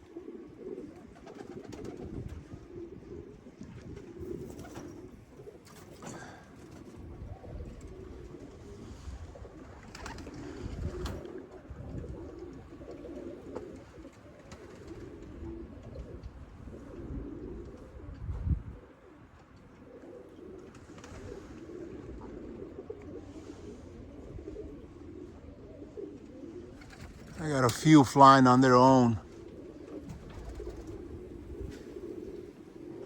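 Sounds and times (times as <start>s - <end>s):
pigeons cooing: 0.0s - 33.0s.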